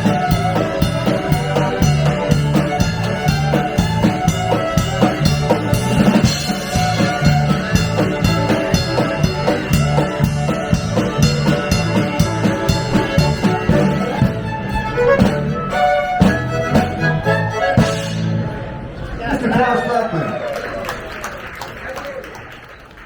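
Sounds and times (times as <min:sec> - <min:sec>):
band music with drums and guitar: 0:00.0 - 0:18.6.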